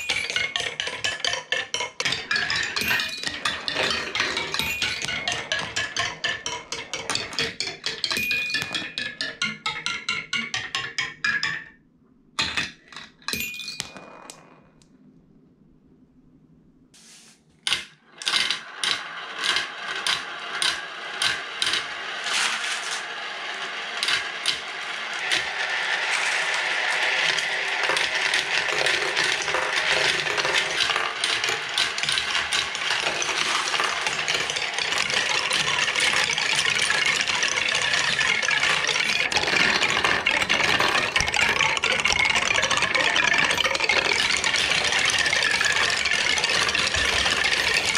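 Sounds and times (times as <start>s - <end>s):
marble run clicks and rattles: 0.0s - 11.7s, 17.6s - 47.9s
marbles clattering down plastic track: 0.0s - 11.7s, 17.7s - 47.9s.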